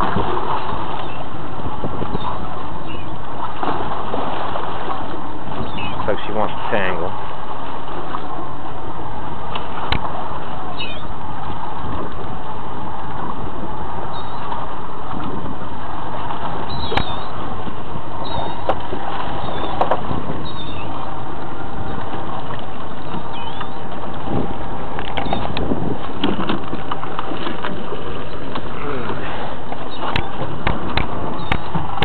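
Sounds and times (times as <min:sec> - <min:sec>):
boat engine running: 0:00.0 - 0:32.0
water: 0:00.0 - 0:32.0
wind: 0:00.0 - 0:32.0.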